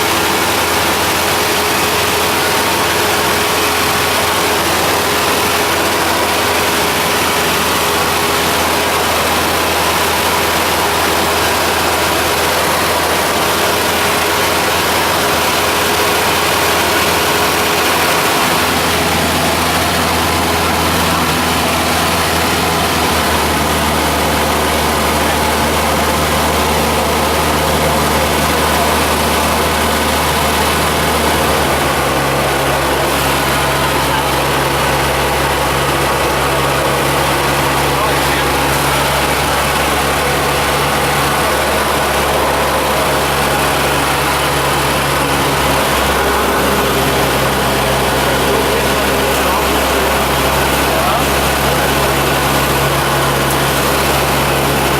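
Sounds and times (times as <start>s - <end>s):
airplane engine and propeller droning: 0.0s - 54.9s.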